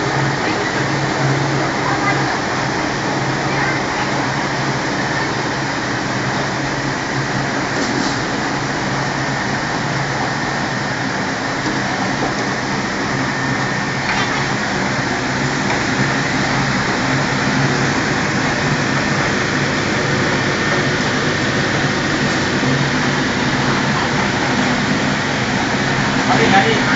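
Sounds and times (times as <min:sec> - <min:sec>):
chips frying in hot oil: 0:00.0 - 0:26.9
low machine hum: 0:00.0 - 0:26.9.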